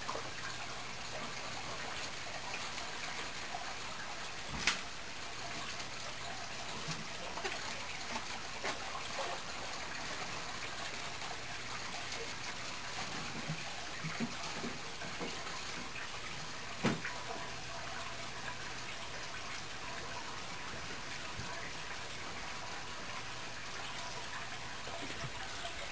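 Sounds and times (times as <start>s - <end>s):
aquarium water trickling: 0.0s - 25.9s.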